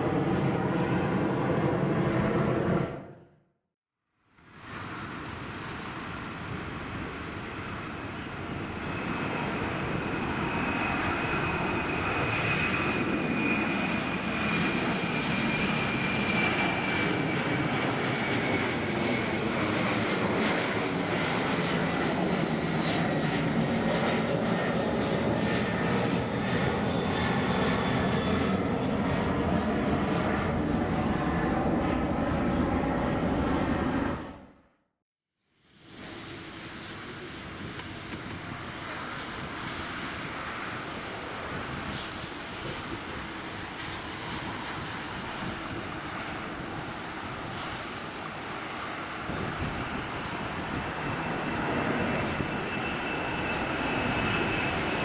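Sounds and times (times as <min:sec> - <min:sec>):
jet engines roaring: 0:00.0 - 0:03.2, 0:04.5 - 0:34.6, 0:35.9 - 0:55.0.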